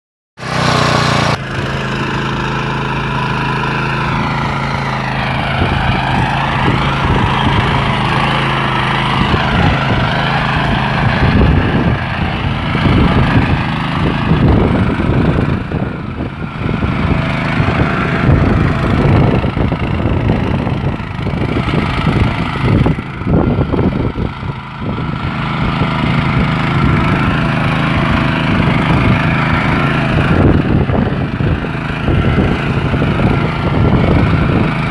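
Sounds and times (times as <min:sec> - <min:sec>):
tiller engine running: 0:00.4 - 0:34.9.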